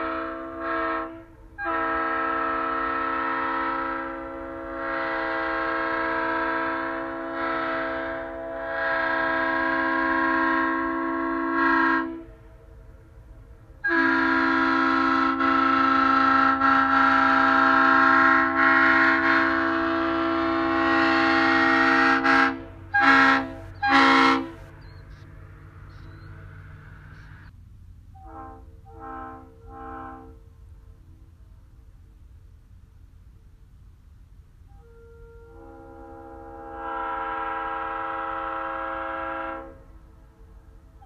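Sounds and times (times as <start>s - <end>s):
locomotive air horn blasts: 0.0s - 12.9s, 13.8s - 27.5s, 28.1s - 31.2s, 34.6s - 41.0s.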